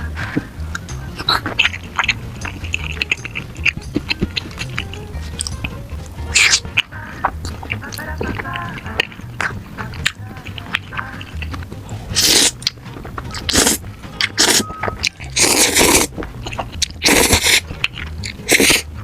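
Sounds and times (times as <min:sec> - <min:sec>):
person biting and chewing food: 0:00.0 - 0:19.0.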